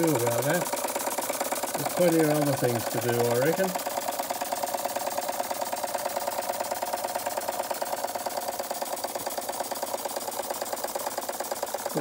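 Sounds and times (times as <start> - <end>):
toy steam engine running: 0.0 - 12.0.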